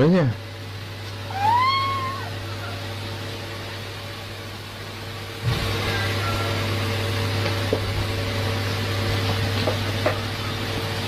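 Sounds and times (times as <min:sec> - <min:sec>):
low hum with steady tones: 0:00.0 - 0:11.0.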